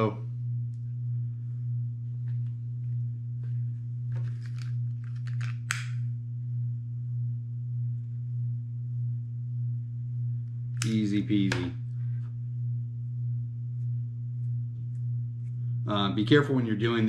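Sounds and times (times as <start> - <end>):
low wavering hum: 0.0 - 17.0.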